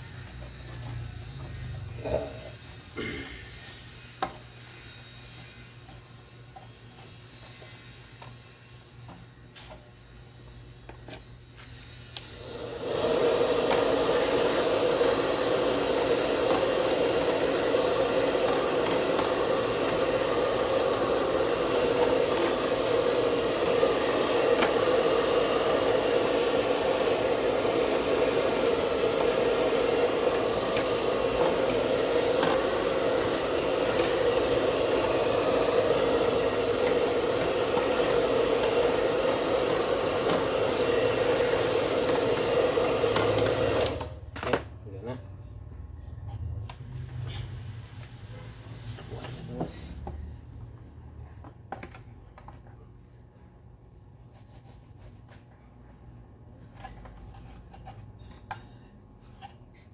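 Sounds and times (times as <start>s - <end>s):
electric air blower running: 0.0s - 44.6s, 46.8s - 50.6s.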